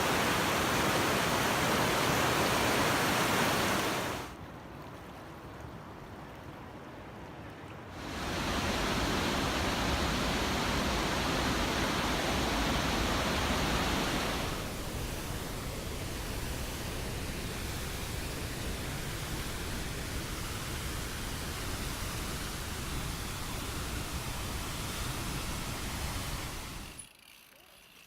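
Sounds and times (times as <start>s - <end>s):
roar of rushing whitewater: 0.0s - 4.3s, 7.9s - 26.8s.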